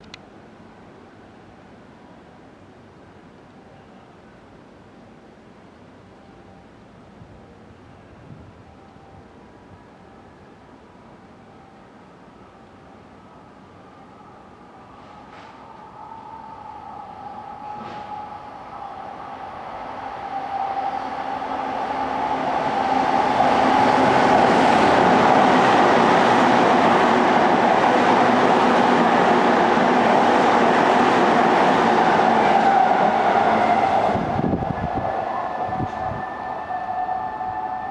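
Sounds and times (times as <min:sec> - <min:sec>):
electric train passing at speed: 0:00.3 - 0:37.9.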